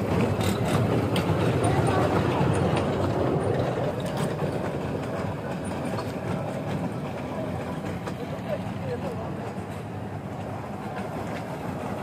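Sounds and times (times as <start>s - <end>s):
ride train rumbling on track: 0.0s - 12.0s.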